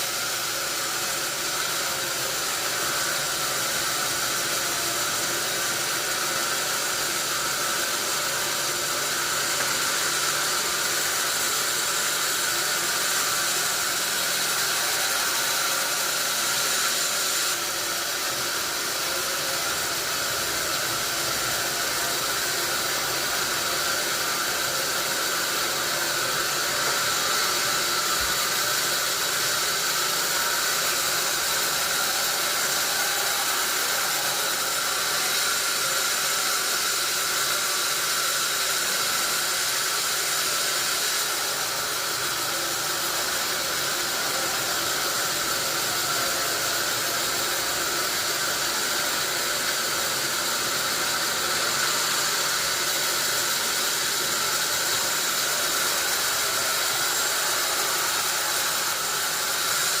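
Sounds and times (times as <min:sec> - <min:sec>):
sawmill saw cutting wood: 0:00.0 - 1:00.0.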